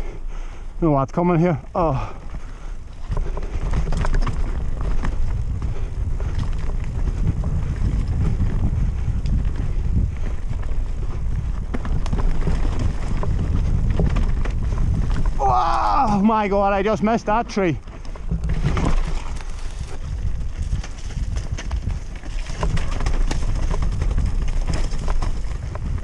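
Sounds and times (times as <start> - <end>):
wind rushing over microphone: 0.0 - 26.0
bike frame and chain rattling: 1.2 - 26.0.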